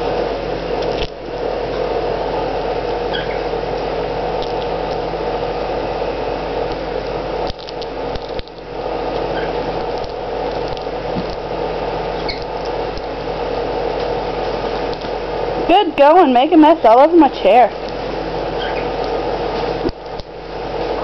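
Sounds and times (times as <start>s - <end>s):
machine humming and whirring: 0.0s - 21.0s.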